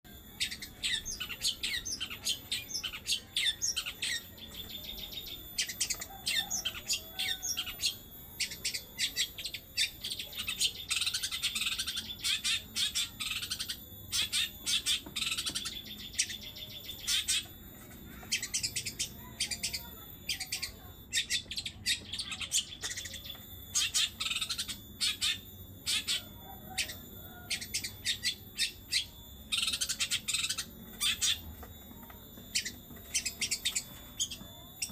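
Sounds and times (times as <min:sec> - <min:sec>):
bird singing chattering song: 0:00.1 - 0:34.9.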